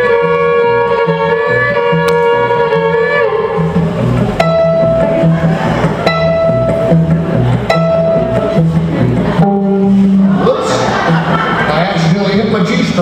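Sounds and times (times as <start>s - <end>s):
fiddle bowing held notes: 0.0s - 11.4s
guitar chugging beat: 0.0s - 13.0s
upright bass: 0.0s - 13.0s.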